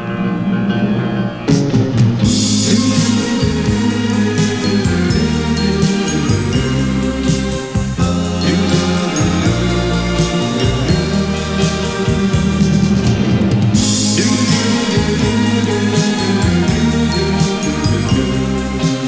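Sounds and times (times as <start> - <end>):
pop song from vinyl record: 0.0 - 19.0.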